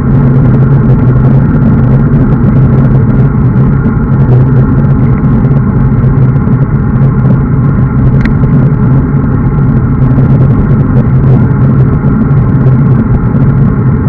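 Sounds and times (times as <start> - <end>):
road noise: 0.0 - 14.0
wind rushing over microphone: 0.0 - 14.0.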